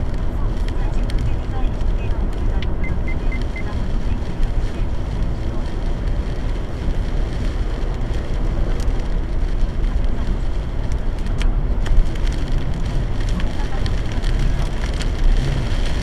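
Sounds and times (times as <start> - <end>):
heavy rain on car roof: 0.0 - 16.0
tyre and road noise: 0.0 - 16.0.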